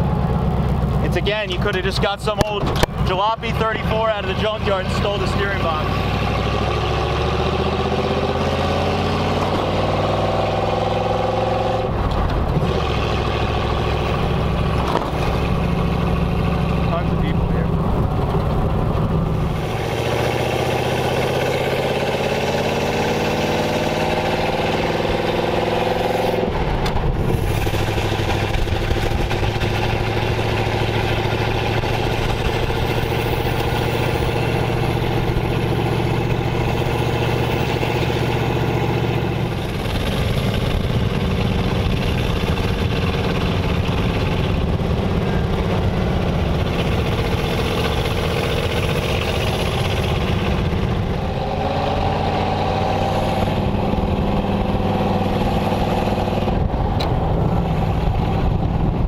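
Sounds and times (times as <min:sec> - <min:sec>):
car engine accelerating: 0:00.0 - 0:59.0
wind and road noise: 0:00.0 - 0:59.0.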